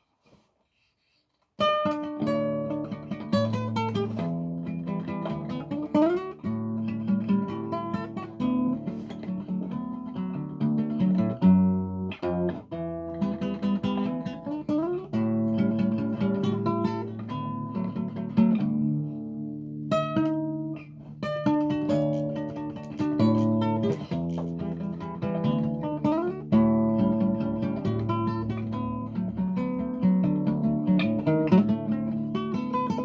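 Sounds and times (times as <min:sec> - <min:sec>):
acoustic guitar playing: 0:01.6 - 0:33.0.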